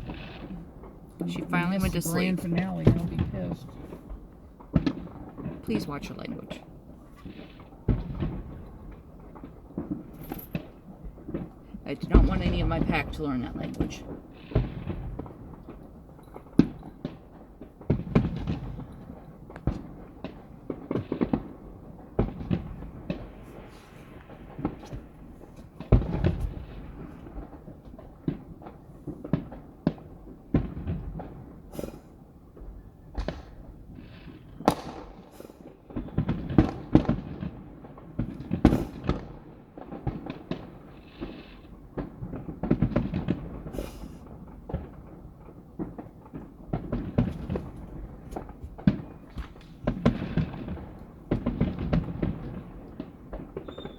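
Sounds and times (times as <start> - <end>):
fireworks booms and cracks: 0.0 - 53.9.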